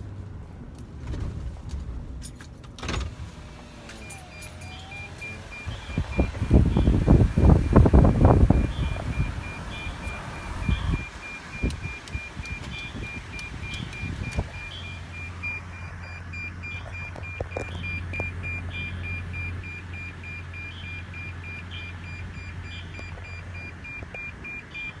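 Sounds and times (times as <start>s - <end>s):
rapid high electronic beeping: 4.3s - 25.0s.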